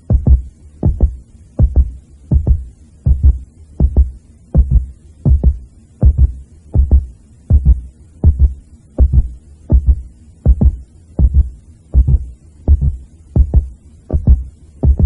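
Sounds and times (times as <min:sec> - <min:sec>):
heartbeat thumps: 0:00.0 - 0:15.0.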